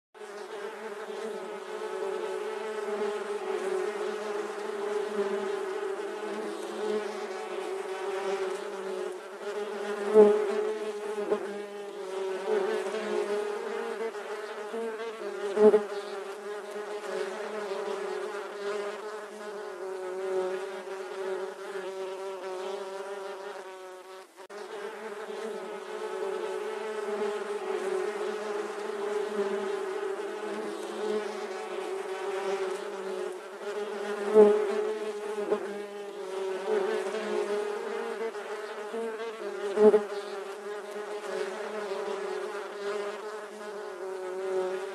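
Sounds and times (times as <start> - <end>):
bees buzzing in flight: 0.2 - 44.9.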